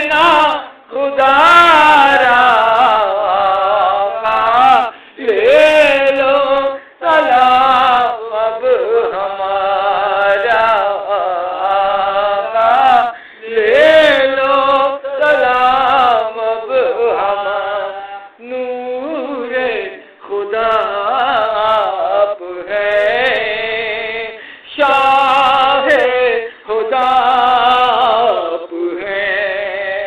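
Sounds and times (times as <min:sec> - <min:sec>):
man singing in chanting style: 0:00.0 - 0:30.0.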